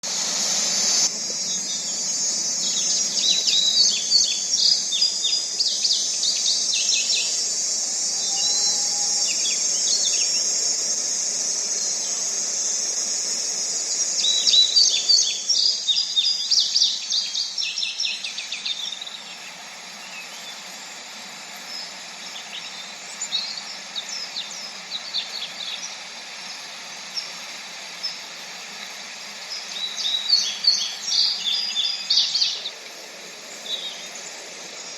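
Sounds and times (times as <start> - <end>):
small birds chirping: 0.0 - 34.9
steady high hiss: 0.0 - 34.9.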